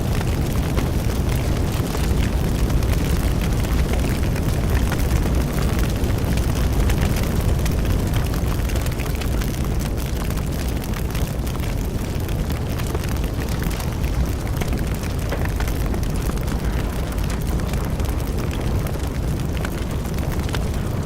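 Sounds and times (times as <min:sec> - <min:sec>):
burning wood crackling and popping: 0:00.0 - 0:21.0
roar of bonfire flames: 0:00.0 - 0:21.0.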